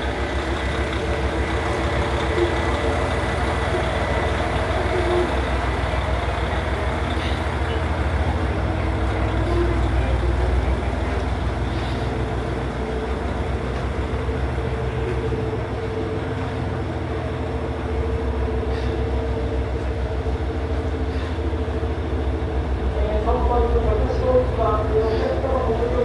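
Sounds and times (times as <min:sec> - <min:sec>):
railcar diesel engine rumbling: 0:00.0 - 0:26.0.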